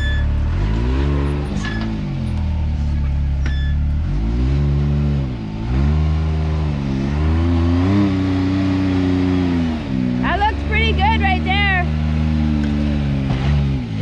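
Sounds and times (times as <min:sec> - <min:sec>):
engine revving in bursts: 0:00.0 - 0:02.5, 0:03.8 - 0:14.0.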